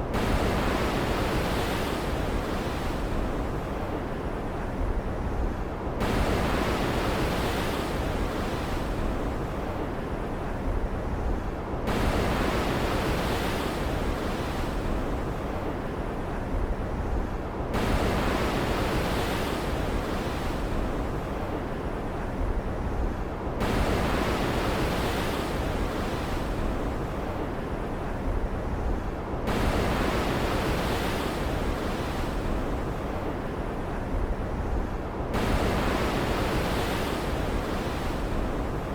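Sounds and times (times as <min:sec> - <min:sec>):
waves and wind surging: 0:00.0 - 0:38.9.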